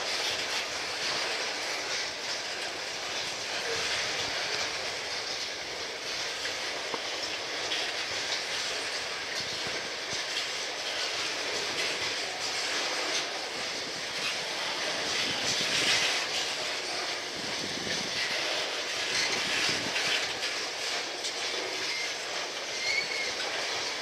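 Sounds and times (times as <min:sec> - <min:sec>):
steel wheels rolling on rail: 0:00.0 - 0:24.0
wheels clicking over rail joints: 0:00.0 - 0:24.0.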